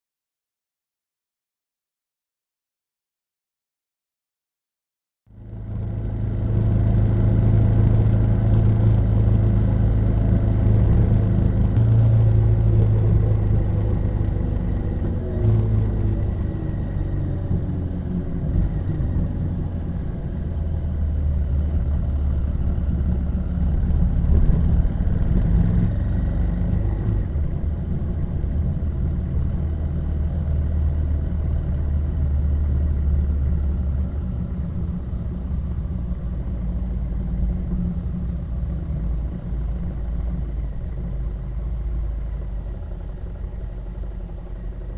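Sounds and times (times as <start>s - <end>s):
vehicle engine rumbling: 5.3s - 44.9s.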